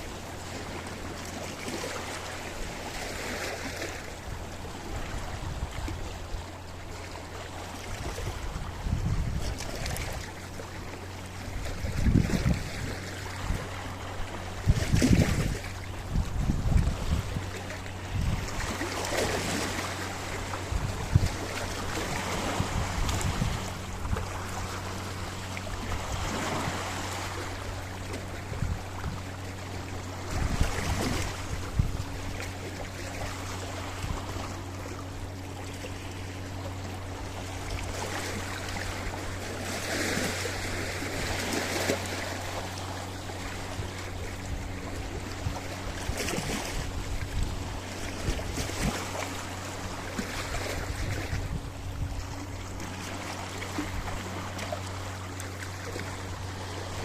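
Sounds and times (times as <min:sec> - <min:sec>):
steady low hum: 0:00.0 - 0:57.0
waves breaking on rocky shore: 0:06.9 - 0:35.0, 0:36.9 - 0:57.0.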